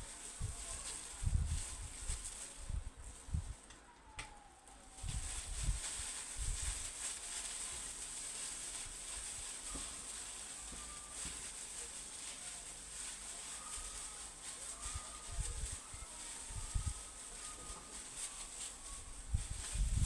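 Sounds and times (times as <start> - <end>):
hair crackling and rustling: 0.0 - 20.0.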